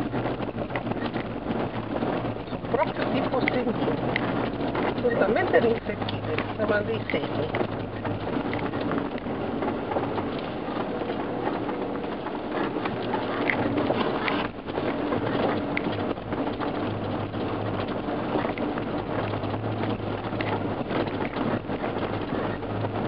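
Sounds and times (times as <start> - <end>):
engine hum: 0.0 - 23.0
knocks and rattles: 0.0 - 23.0.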